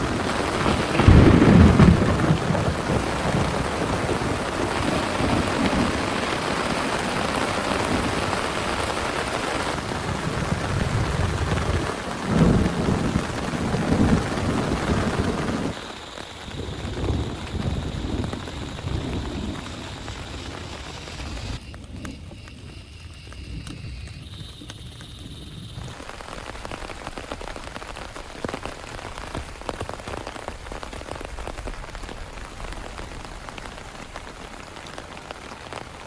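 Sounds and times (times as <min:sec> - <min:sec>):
heavy rain falling: 0:00.0 - 0:36.0
thunder rumbling: 0:00.0 - 0:36.0.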